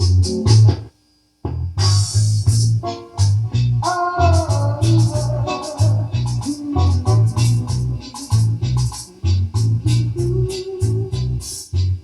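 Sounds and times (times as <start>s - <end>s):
reggae music with deep bass: 0.0s - 0.9s, 1.5s - 12.0s.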